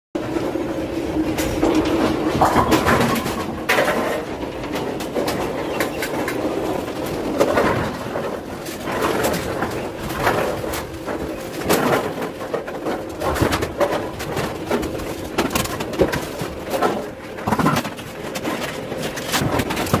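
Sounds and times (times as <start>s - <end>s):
bowling balls rumbling: 0.2s - 20.0s.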